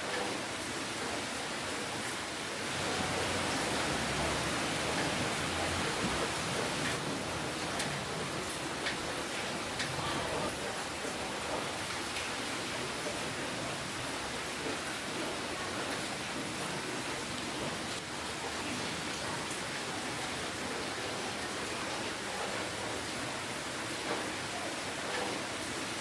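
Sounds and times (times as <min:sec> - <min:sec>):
steady rainfall: 0:00.0 - 0:26.0.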